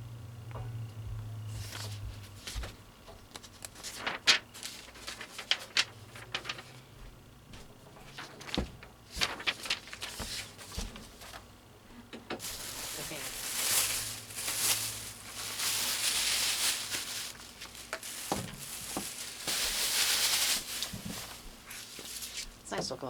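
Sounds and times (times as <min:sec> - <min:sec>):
packaging rustling and crinkling: 0:01.6 - 0:06.9, 0:08.0 - 0:11.5, 0:12.3 - 0:22.7.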